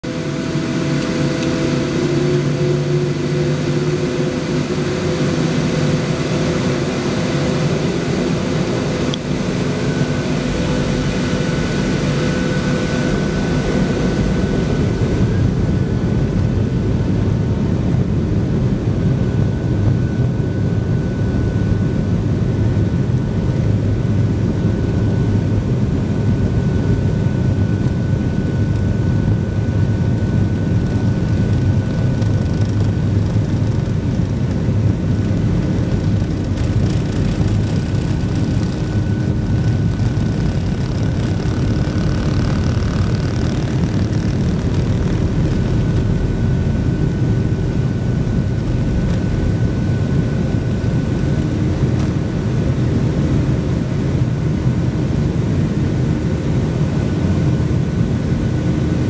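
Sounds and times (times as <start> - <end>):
steady hums: 0.0 - 54.2
jet engines rumbling in cabin: 0.0 - 59.0.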